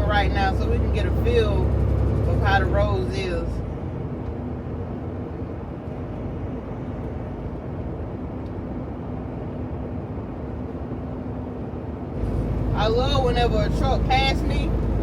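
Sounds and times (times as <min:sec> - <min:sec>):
diesel engine drone: 0:00.0 - 0:15.0
tyre and road noise: 0:00.0 - 0:15.0.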